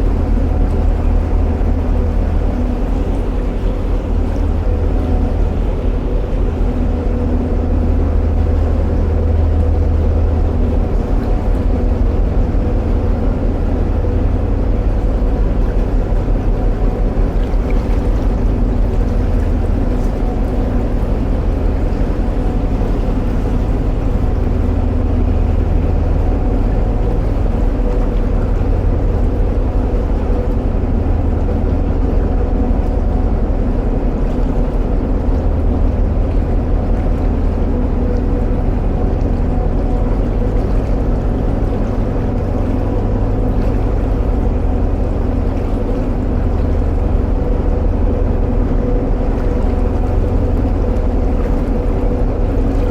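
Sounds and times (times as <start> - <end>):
diesel boat engine throbbing: 0.0 - 52.9.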